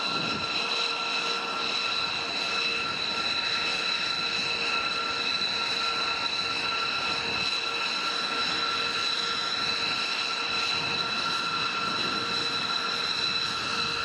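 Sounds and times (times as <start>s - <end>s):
jet engine whine and rush: 0.0s - 14.0s.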